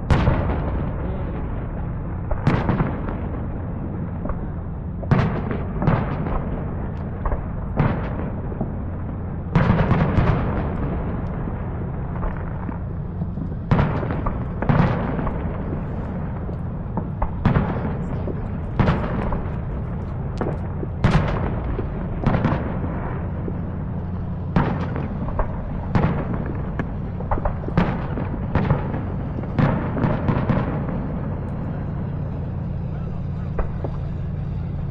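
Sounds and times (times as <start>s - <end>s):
fireworks booming: 0.0s - 34.9s
steady low rumble: 0.0s - 34.9s.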